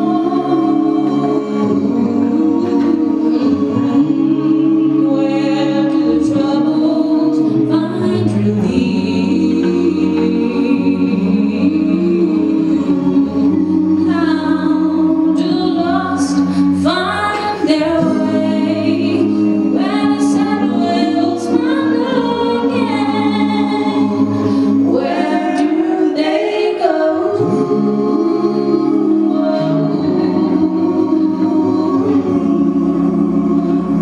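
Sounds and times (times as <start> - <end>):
vocal group singing a cappella: 0.0 - 34.0.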